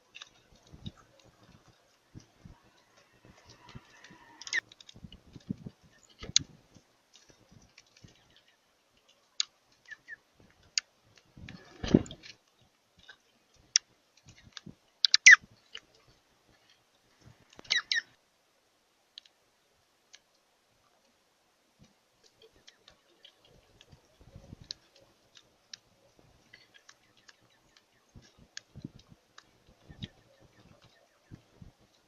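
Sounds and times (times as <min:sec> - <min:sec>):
birds chirping: 0:00.0 - 0:16.2, 0:17.5 - 0:18.1, 0:22.2 - 0:32.0
faint clicks and ticks: 0:00.0 - 0:18.2, 0:19.0 - 0:21.2, 0:21.8 - 0:32.0.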